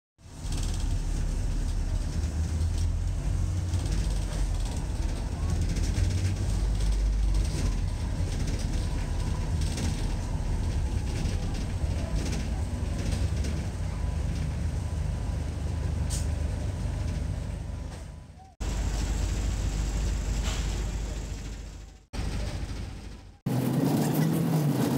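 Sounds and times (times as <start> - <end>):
bus engine rumble: 0.2 - 24.9
road noise: 0.2 - 24.9.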